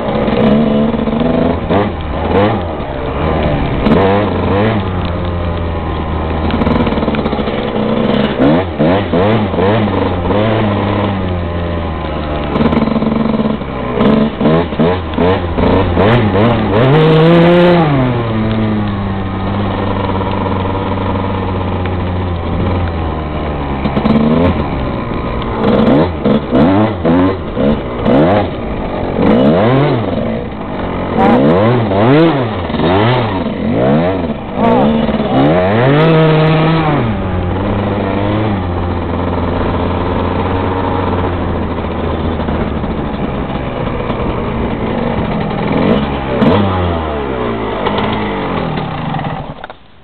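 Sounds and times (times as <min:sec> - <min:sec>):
dirt bike engine revving: 0:00.0 - 0:49.7.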